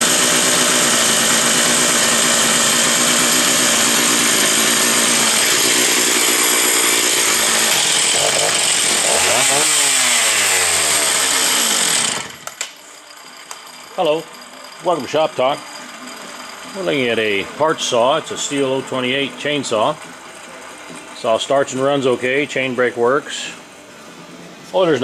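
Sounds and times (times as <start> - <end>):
chainsaw engine running: 0.0 - 23.5.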